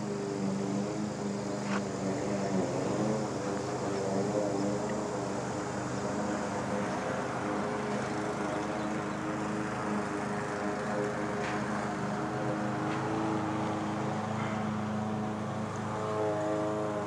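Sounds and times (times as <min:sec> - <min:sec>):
steady engine drone: 0:00.0 - 0:17.0.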